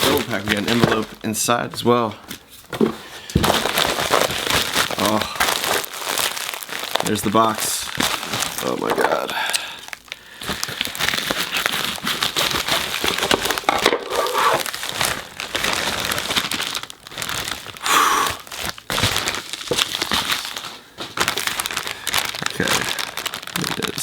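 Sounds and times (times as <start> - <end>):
packing material crinkling: 0.0 - 24.0.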